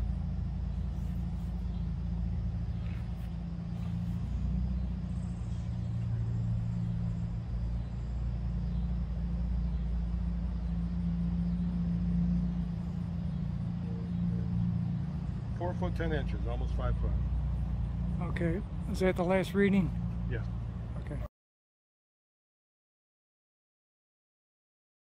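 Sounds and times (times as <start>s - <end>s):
motor drone: 0.0s - 21.2s.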